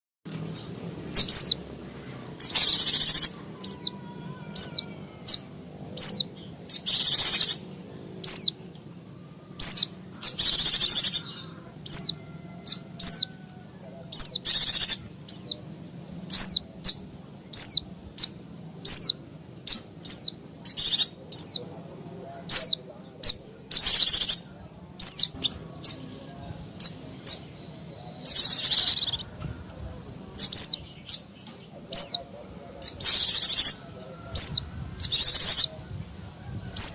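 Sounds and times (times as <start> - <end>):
birds chirping: 0.3 - 36.9
harsh rasping bird calls: 0.5 - 15.6, 16.2 - 21.7, 22.4 - 29.4, 30.2 - 36.9.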